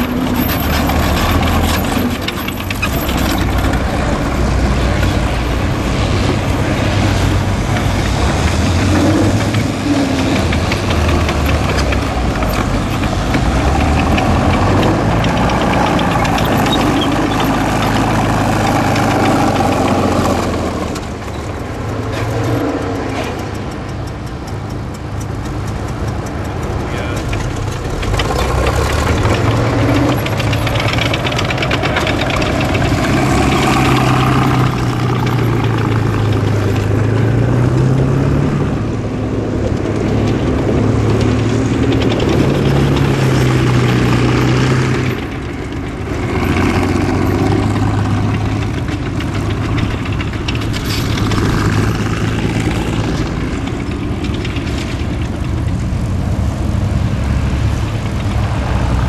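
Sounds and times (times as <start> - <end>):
steel tracks clattering: 0.0 - 59.0
tank diesel engine running: 0.0 - 59.0.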